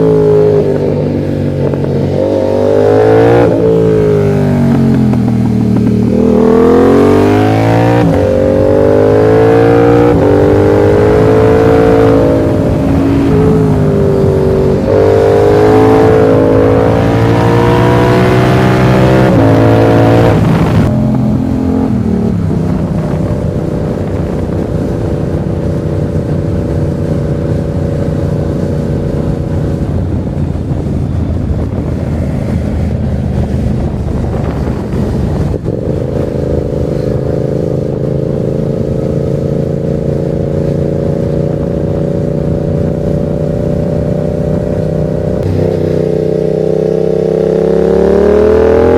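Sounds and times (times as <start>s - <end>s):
motorcycle engine revving: 0.0s - 48.9s
rush of noise: 0.0s - 48.9s.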